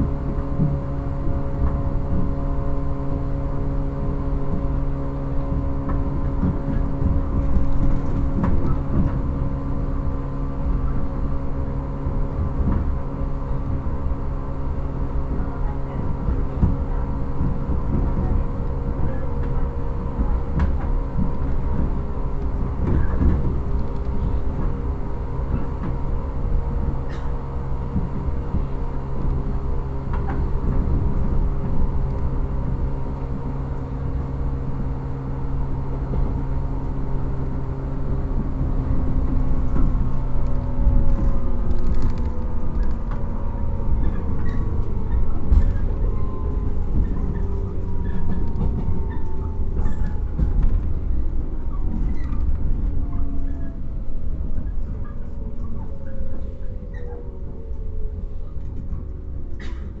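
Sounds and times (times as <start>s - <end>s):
train traction motors humming: 0.0s - 60.0s
wheels rumbling on rail: 0.0s - 60.0s
rail joint clicks: 4.4s - 60.0s.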